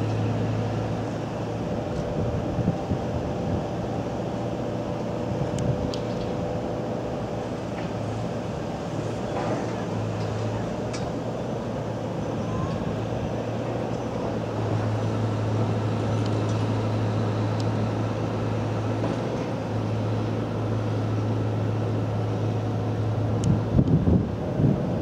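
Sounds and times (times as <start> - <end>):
constant low hum: 0.0 - 25.0
distant traffic: 0.0 - 25.0.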